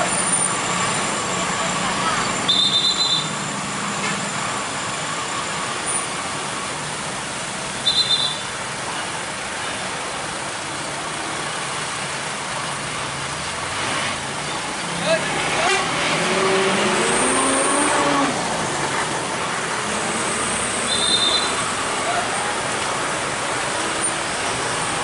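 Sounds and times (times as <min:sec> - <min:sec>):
diesel trucks running at low speed: 0:00.0 - 0:25.0
road traffic noise: 0:00.0 - 0:25.0.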